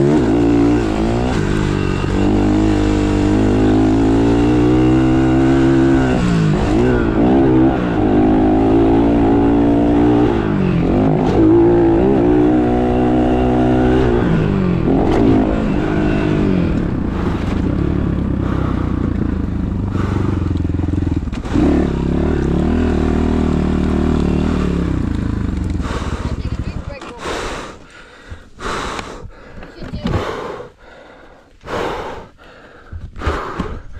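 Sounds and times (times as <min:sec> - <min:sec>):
dirt bike engine revving: 0:00.0 - 0:27.8.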